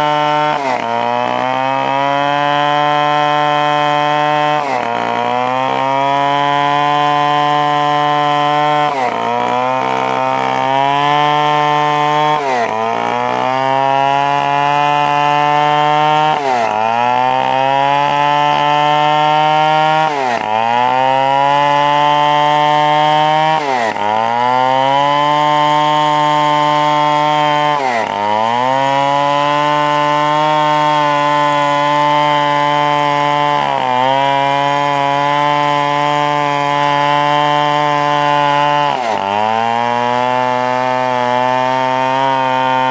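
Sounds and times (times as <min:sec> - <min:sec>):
chainsaw cutting timber: 0:00.0 - 0:42.9.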